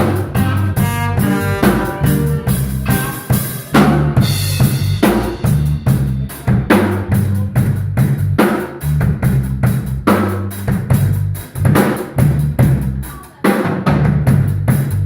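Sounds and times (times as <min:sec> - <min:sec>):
bass line: 0:00.0 - 0:13.2, 0:13.8 - 0:15.0
drum kit beat: 0:00.0 - 0:15.0.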